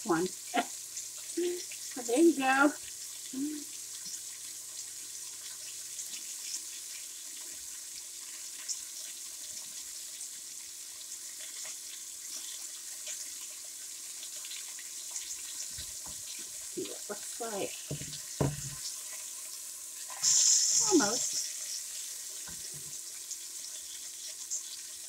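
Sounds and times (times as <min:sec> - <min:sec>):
chicken searing in oil: 0:00.0 - 0:25.0.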